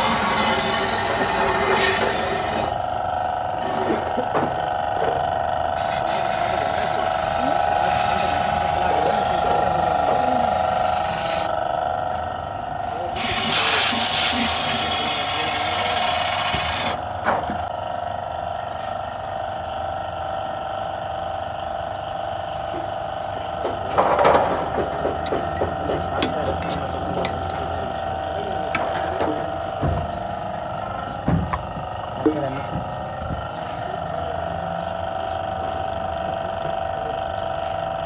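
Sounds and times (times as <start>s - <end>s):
mechanical hum with held tones: 0.0s - 38.0s.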